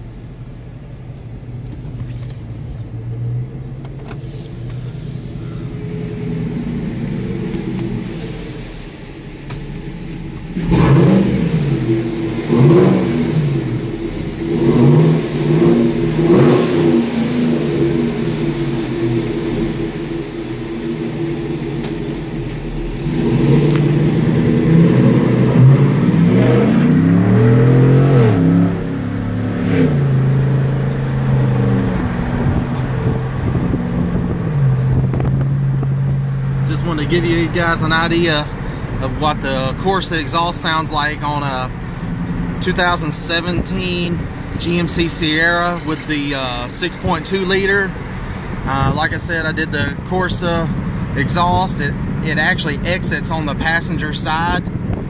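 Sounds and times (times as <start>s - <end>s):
truck engine revving: 3.0s - 55.0s.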